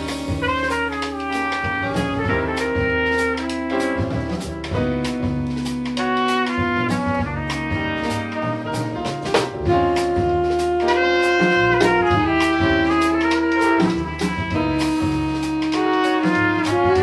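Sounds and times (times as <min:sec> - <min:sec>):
alto saxophone: 0:00.0 - 0:17.0
double bass: 0:00.0 - 0:17.0
drum kit cymbal beat: 0:00.0 - 0:17.0
piano: 0:00.0 - 0:17.0
trumpet: 0:00.0 - 0:17.0.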